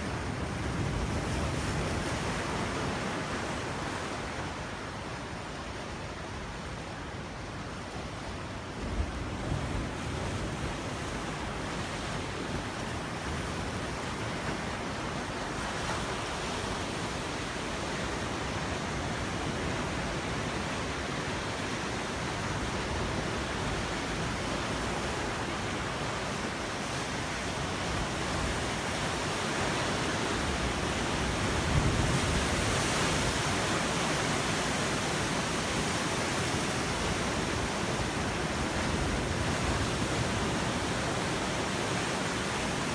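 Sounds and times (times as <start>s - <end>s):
ocean surf breaking: 0.0s - 42.9s.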